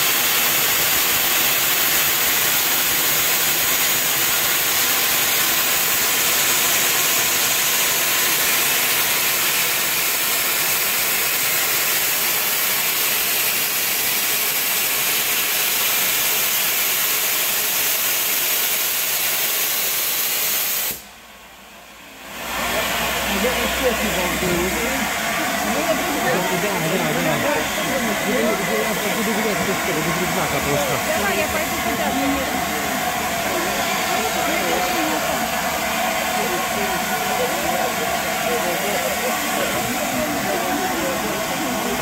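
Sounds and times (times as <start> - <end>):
steam locomotive hissing steam: 0.0 - 42.0.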